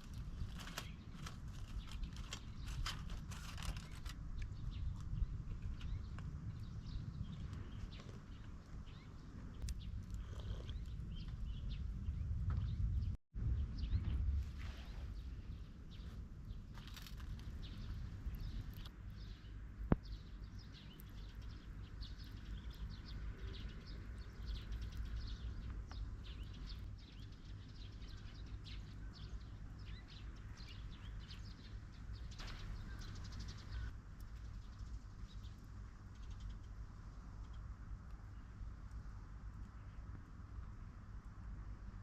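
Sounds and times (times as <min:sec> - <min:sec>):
small birds chirping: 0:00.0 - 0:42.0
steady low rumble: 0:00.0 - 0:42.0.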